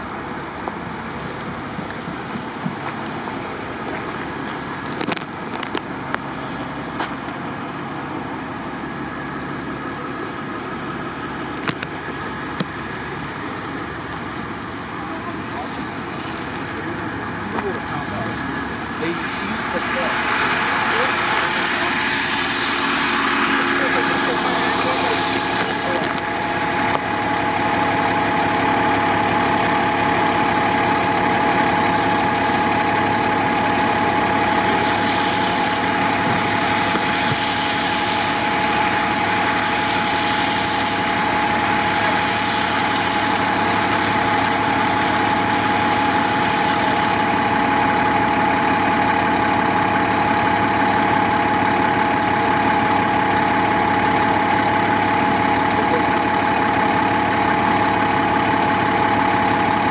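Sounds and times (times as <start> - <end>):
constant whine: 0.0 - 59.9
large vehicle engine idling: 0.0 - 59.9.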